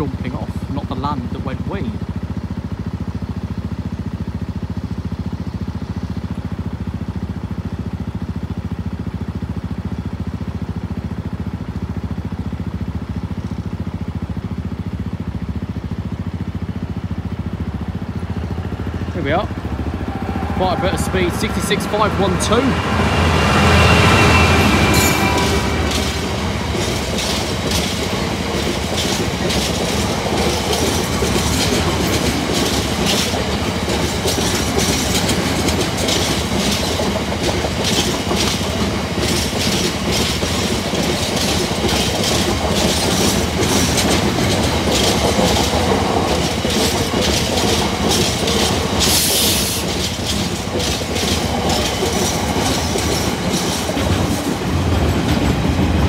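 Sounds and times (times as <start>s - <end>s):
freight train rumbling past: 0.0s - 56.0s
wheels clacking over rail joints: 4.8s - 56.0s.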